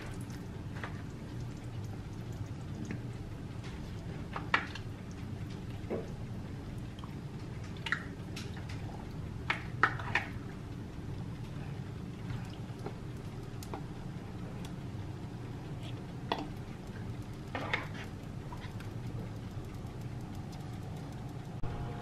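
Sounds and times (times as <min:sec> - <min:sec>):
broth simmering in a pot: 0:00.0 - 0:22.0.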